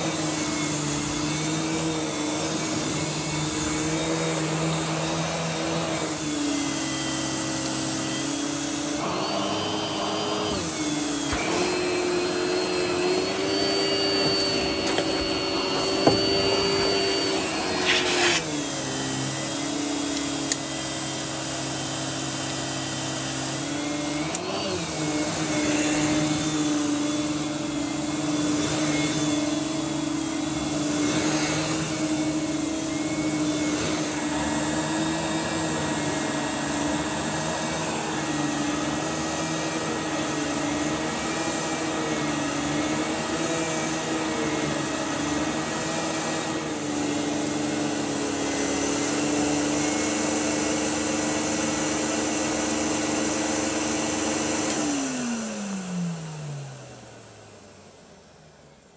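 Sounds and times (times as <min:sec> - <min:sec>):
brush head over carpet: 0:00.0 - 0:21.6, 0:24.3 - 0:55.0
vacuum cleaner motor humming: 0:00.0 - 0:58.9.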